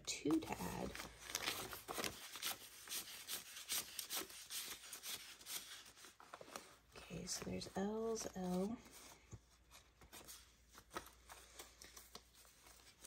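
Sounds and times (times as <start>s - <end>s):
paper cards rustling: 0.2s - 13.0s.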